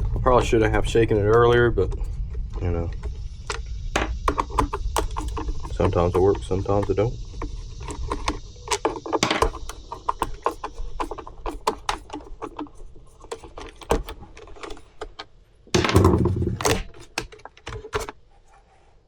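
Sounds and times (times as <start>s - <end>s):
plastic housing clicks and knocks: 0.0s - 18.2s
plastic clattering: 0.0s - 18.3s.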